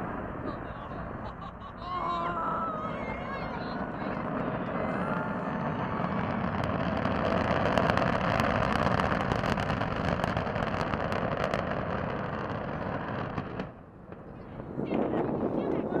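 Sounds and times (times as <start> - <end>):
rocket engines roaring: 0.0 - 16.0.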